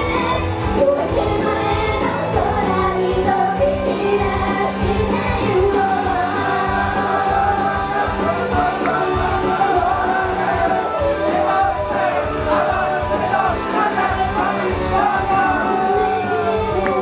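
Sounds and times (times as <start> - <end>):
women singing pop-rock live: 0.0 - 17.0.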